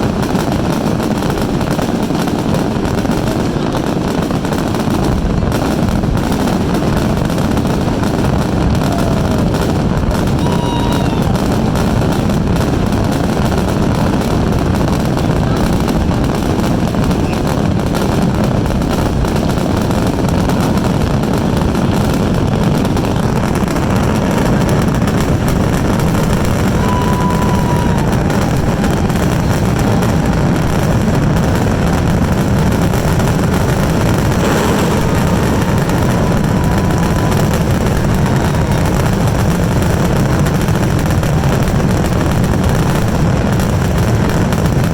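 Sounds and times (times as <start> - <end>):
fireworks booms: 0.0 - 44.9.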